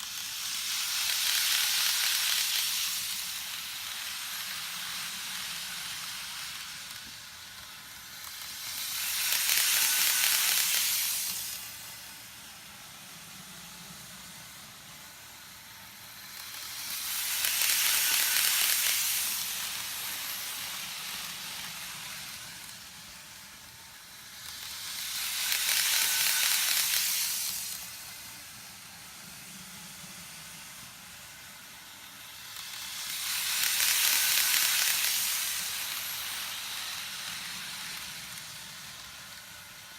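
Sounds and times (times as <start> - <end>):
model train whirring on rails: 0.0 - 39.9.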